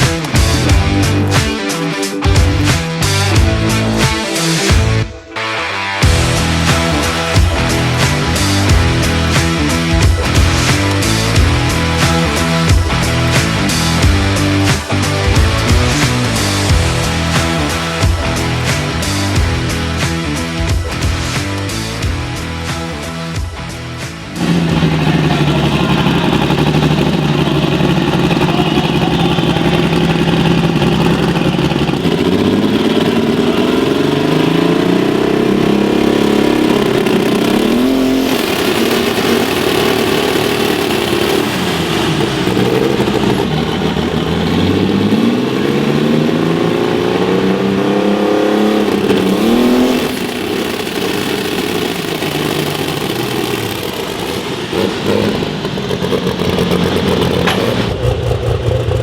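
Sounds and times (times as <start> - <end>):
vehicle engine revving high: 6.0 - 59.0.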